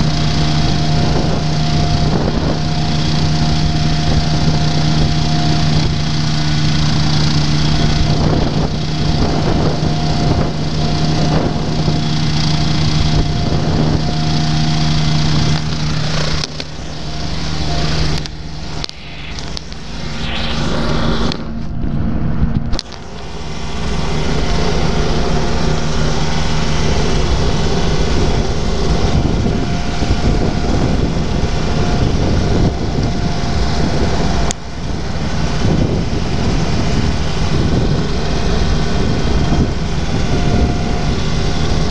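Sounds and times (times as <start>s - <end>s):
ultralight aircraft engine running: 0.0s - 41.9s
wind rushing: 0.7s - 41.9s.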